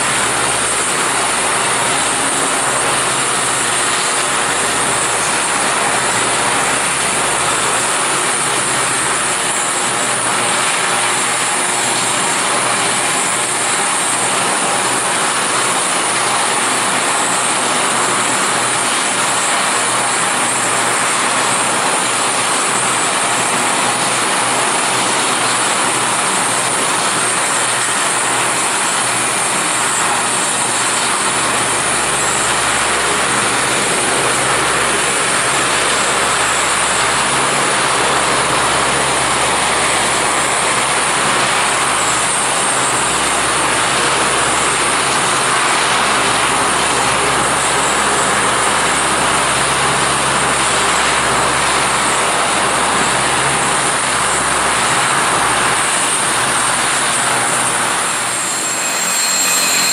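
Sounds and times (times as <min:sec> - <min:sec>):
high turbine whine: 0:00.0 - 0:59.9
propeller drone: 0:00.0 - 0:59.9.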